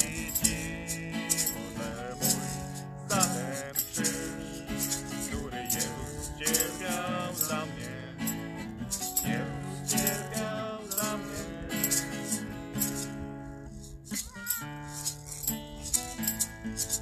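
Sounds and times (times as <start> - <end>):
acoustic guitar strumming chords: 0.0 - 17.0
maracas shaking: 0.0 - 17.0.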